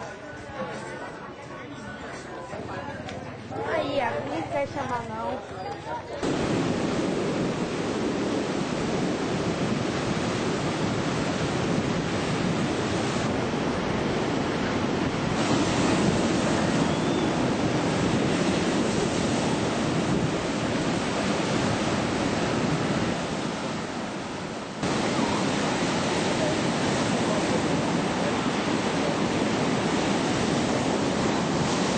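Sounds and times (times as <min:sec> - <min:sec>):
wind over microphone: 0:02.7 - 0:31.9
waves breaking: 0:06.1 - 0:31.9.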